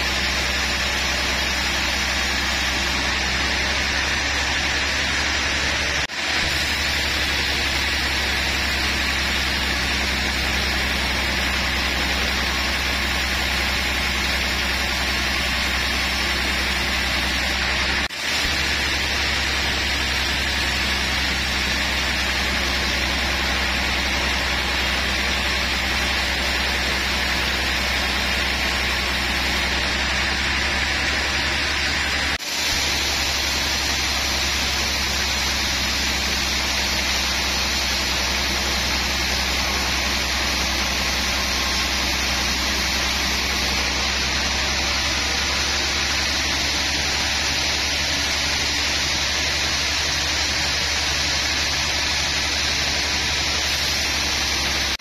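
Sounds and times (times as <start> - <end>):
saw blade hissing through wood: 0.0 - 55.0
sawmill motor hum: 0.0 - 55.0.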